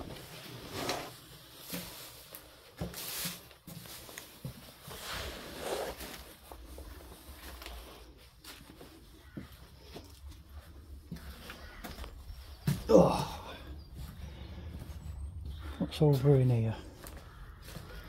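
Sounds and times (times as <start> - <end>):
footsteps scuffing on paper: 0.1 - 12.9, 13.8 - 18.0.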